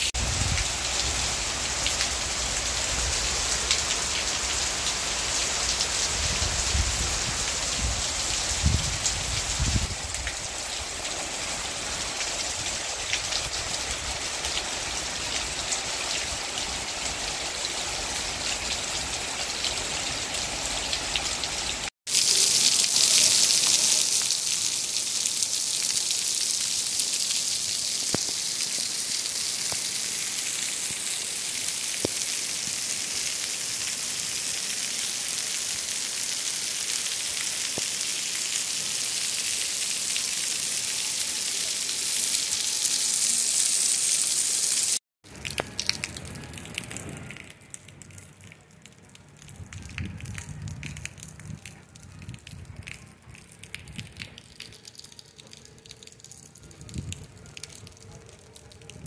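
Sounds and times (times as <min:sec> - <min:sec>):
rain falling on foliage: 0:00.0 - 0:59.0
rain pouring onto wet street: 0:00.0 - 0:59.0.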